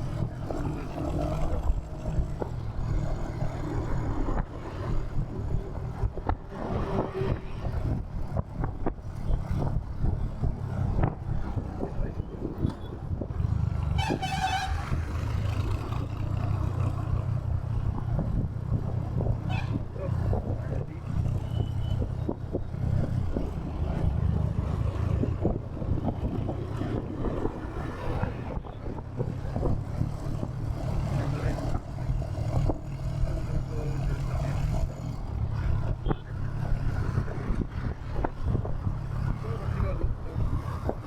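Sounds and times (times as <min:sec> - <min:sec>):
road and traffic noise: 0:00.0 - 0:41.0.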